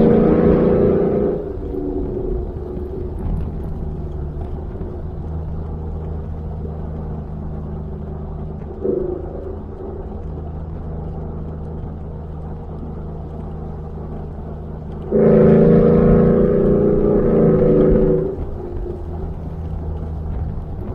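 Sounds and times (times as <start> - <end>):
truck exhaust drone: 0.0 - 20.9.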